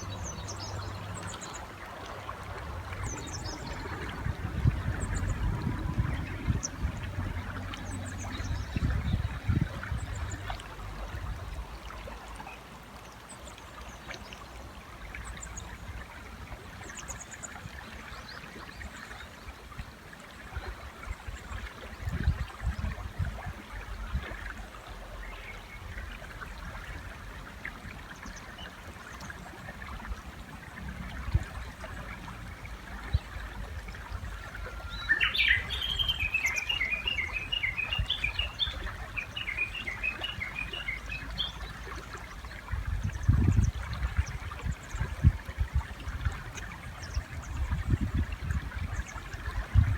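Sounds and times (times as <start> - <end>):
river water running: 0.0 - 49.9.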